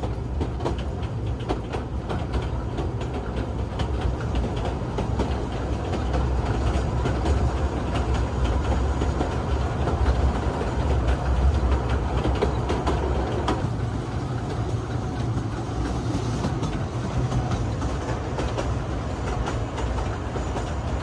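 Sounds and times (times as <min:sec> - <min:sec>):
train rumbling on board: 0:00.0 - 0:21.0
wheels clacking on rails: 0:00.0 - 0:21.0.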